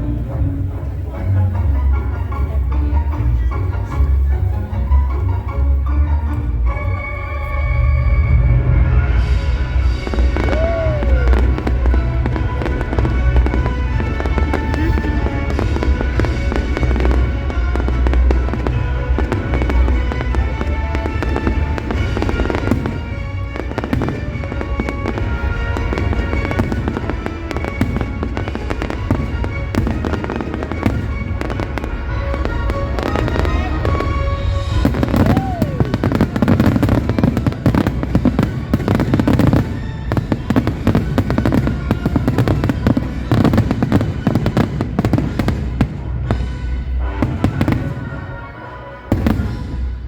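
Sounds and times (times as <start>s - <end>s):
fireworks crackling and banging: 0.0s - 50.0s
loud music: 0.0s - 50.0s
fireworks low booms: 6.3s - 50.0s.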